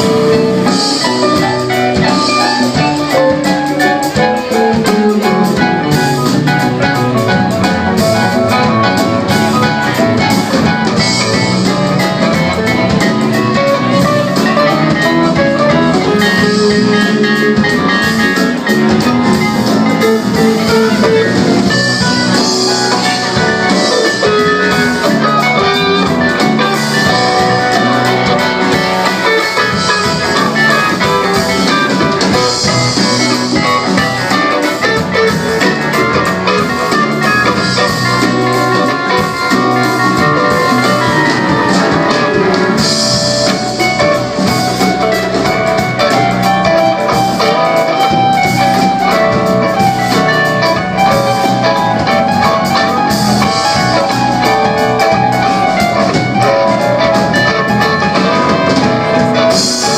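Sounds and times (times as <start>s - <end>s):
drum kit: 0.0s - 59.9s
guitar: 0.0s - 59.9s
live band playing: 0.0s - 59.9s.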